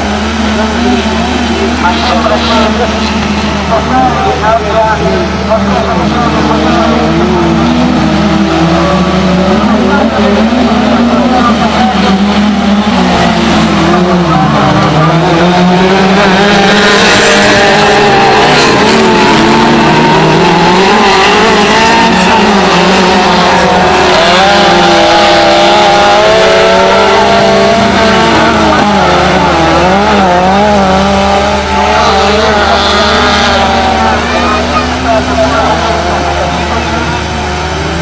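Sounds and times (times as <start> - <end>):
race car engines revving high: 0.0 - 38.0.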